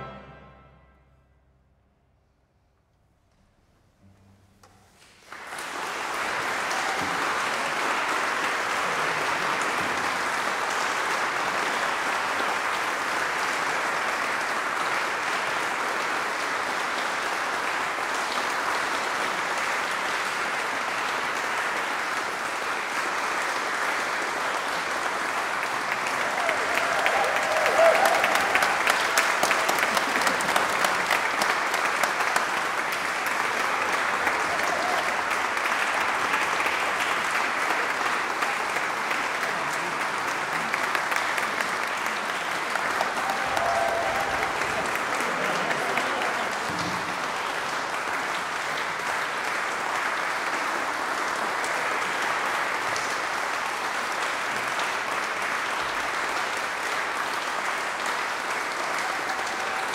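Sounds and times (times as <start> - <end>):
audience applauding: 5.0 - 59.9.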